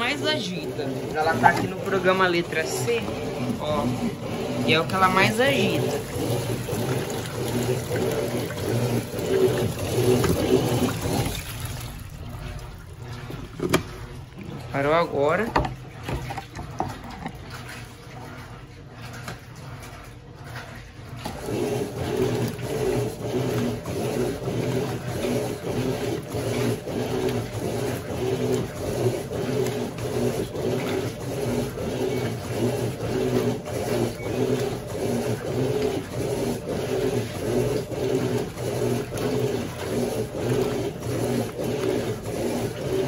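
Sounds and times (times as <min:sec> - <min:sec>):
washing machine agitating: 0:00.0 - 0:43.0.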